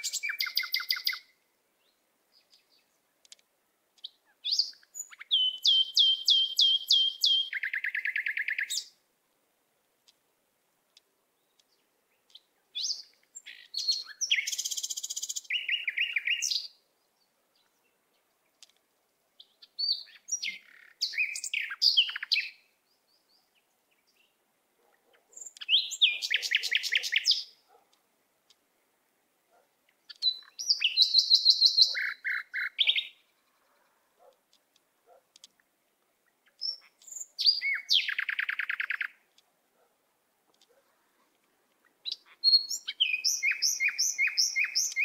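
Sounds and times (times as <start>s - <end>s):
songbird chirps and trills: 0.0s - 45.0s.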